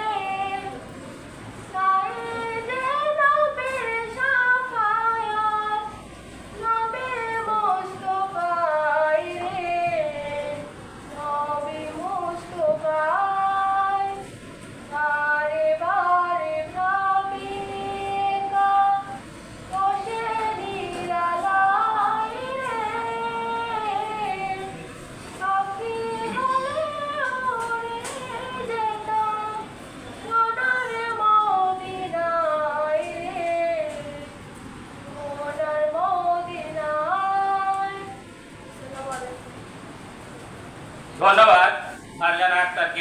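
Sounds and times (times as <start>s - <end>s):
woman singing devotional song: 0.0s - 0.9s, 1.7s - 39.5s.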